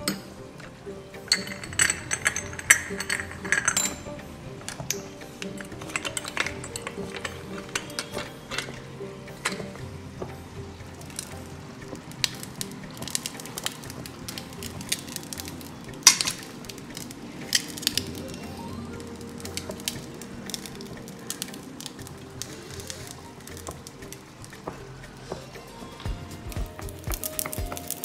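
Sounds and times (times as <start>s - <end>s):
dough press clicks and crackles: 0.0s - 28.0s
faint background music: 0.0s - 28.0s.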